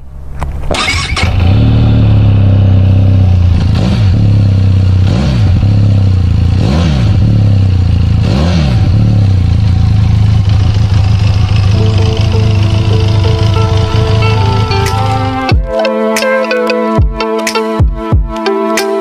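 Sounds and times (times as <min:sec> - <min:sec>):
motorcycle engine idling: 0:00.0 - 0:15.7
engine throttle blips: 0:00.0 - 0:15.9.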